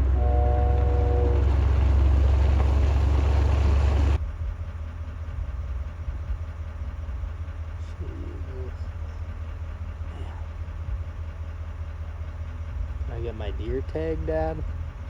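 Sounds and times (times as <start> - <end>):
loud low rumble: 0.0 - 15.0
vehicle engine running: 0.0 - 15.0.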